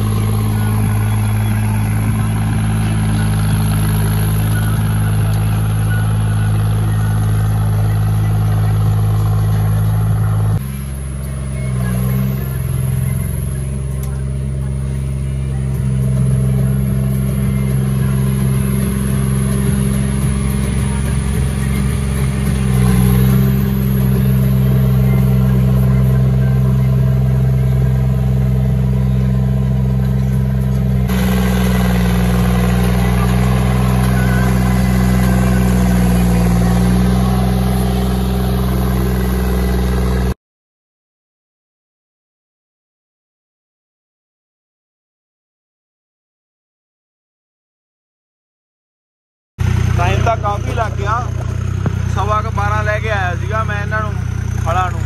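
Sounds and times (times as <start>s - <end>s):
tractor diesel engine running: 0.0s - 40.4s, 49.6s - 55.0s.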